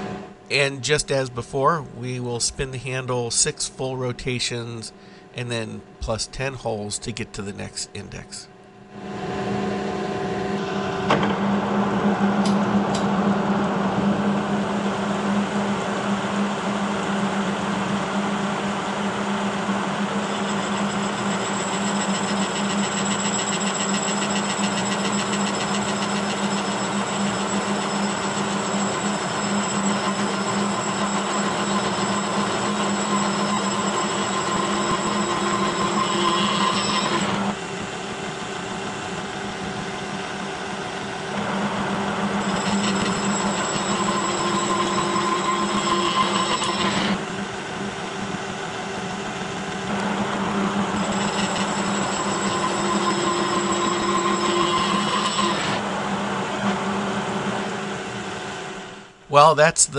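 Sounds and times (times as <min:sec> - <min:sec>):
milling machine hum and whine: 0:00.0 - 0:59.2.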